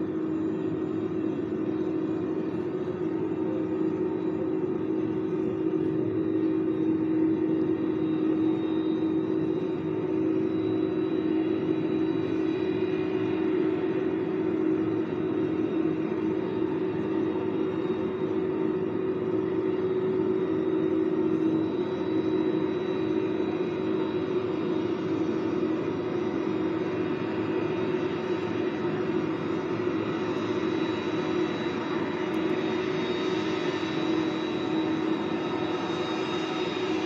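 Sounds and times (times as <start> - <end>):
jet engines droning and whining: 0.0 - 37.0.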